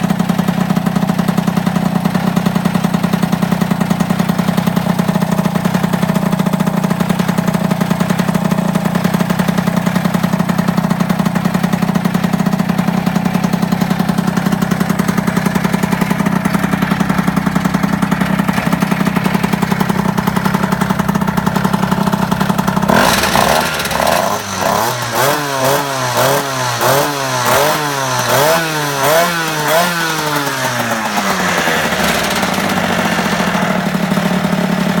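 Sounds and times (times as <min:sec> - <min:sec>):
moped engine idling and revving: 0:00.0 - 0:35.0.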